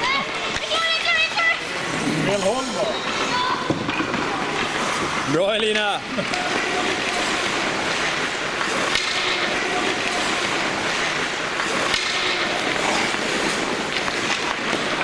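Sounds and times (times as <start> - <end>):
ice skates scraping: 0.0 - 15.0
hockey sticks knocking pucks: 0.1 - 1.3, 2.6 - 15.0.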